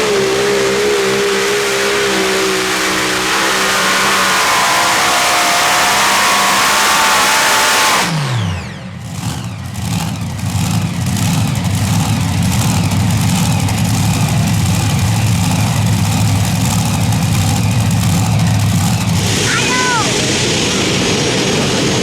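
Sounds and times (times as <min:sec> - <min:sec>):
tractor engines revving down and idling: 0:00.0 - 0:22.0.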